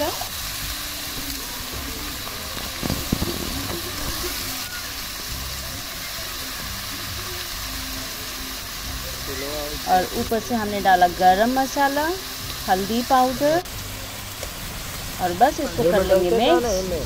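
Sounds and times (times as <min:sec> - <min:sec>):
fish and onions sizzling: 0:00.0 - 0:17.0.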